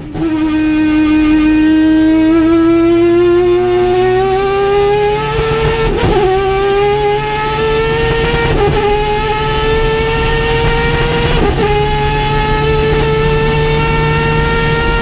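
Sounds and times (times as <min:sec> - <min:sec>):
rotary engine revving under load: 0:00.4 - 0:15.0.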